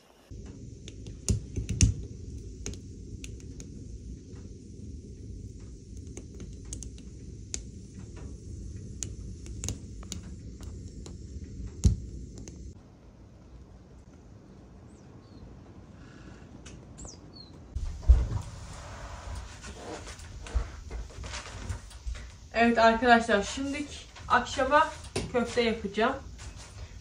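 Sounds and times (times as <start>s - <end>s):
fire crackles and pops: 0.2s - 14.3s, 16.5s - 27.0s
fire rumbling in a wood stove: 0.2s - 27.0s.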